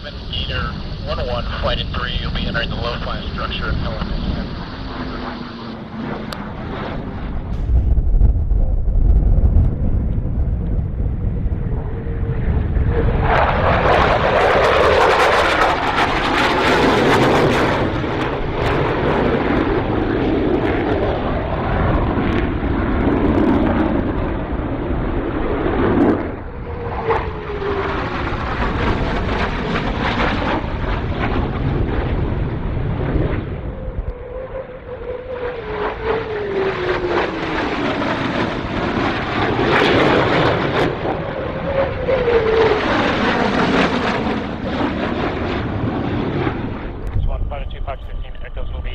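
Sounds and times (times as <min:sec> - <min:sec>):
jet flying past roaring: 0:00.0 - 0:48.9.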